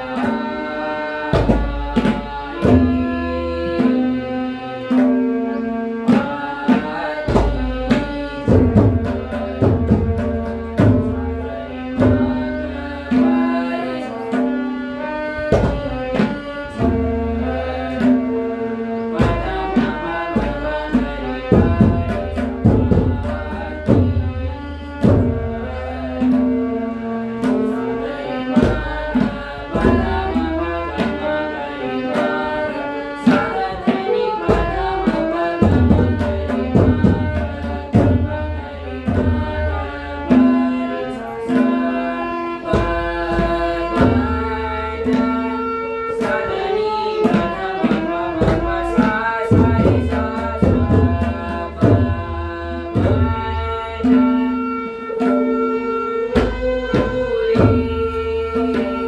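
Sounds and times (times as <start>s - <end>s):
tabla drumming: 0.0s - 59.0s.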